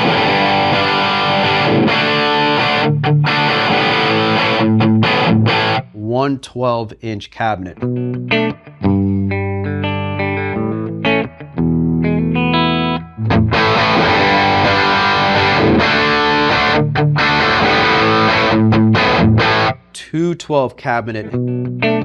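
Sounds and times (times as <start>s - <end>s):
distorted electric guitar riff: 0.0s - 5.9s, 7.8s - 19.8s, 21.2s - 22.0s
electric guitar clean chords: 0.0s - 5.9s, 7.8s - 19.8s, 21.2s - 22.0s.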